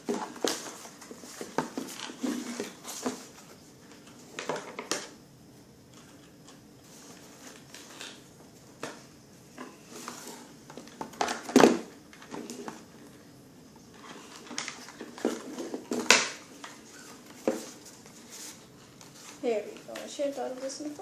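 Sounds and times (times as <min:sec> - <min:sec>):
packaging rustling and scraping: 0:00.0 - 0:05.1, 0:06.0 - 0:08.3, 0:09.6 - 0:13.2, 0:13.9 - 0:20.3.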